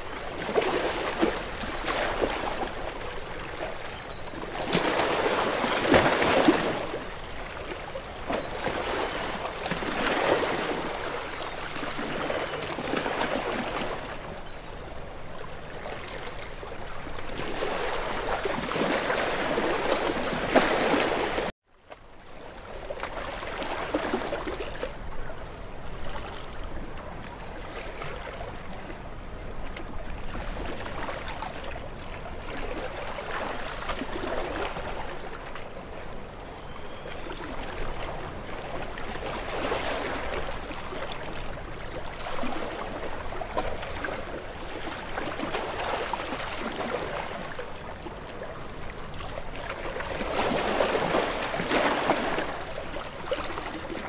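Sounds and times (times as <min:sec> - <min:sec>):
small waves lapping: 0:00.0 - 0:54.0.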